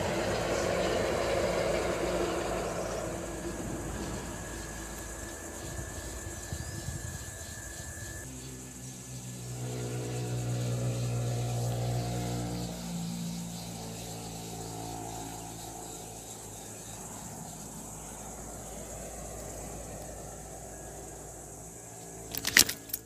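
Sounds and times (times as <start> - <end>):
vehicle engine droning: 0.0 - 23.0.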